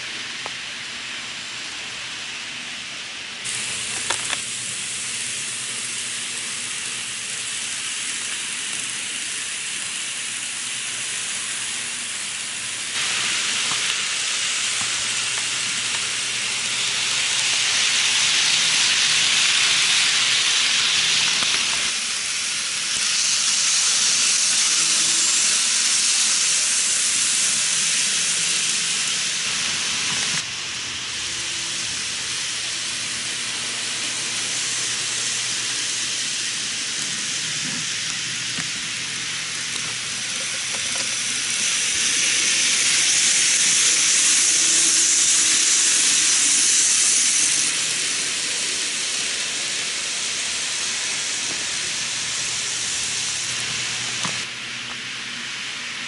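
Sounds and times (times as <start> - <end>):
faint motor hum: 0.0 - 56.0
model train wheels rushing on rails: 0.0 - 56.0.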